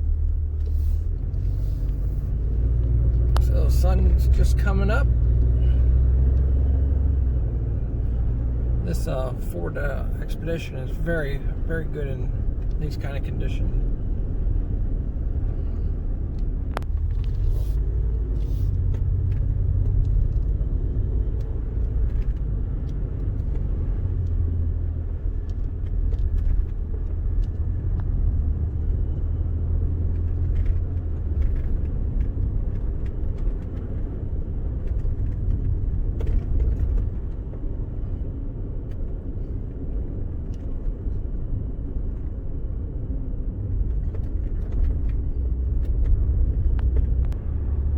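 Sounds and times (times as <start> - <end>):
engine and tyres rumbling: 0.0 - 47.9.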